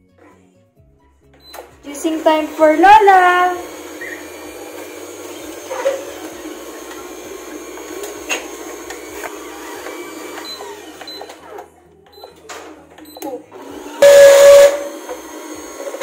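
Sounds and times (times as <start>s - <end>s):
juicer motor humming: 1.5s - 11.7s, 13.3s - 16.0s.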